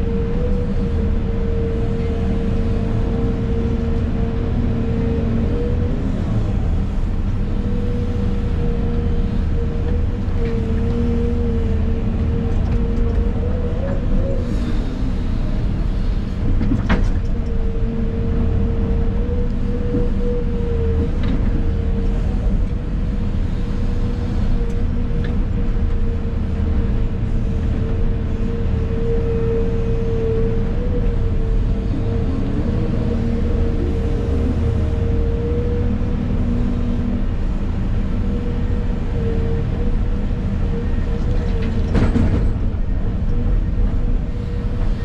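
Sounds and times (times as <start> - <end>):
excavator engine and hydraulics: 0.0 - 45.0.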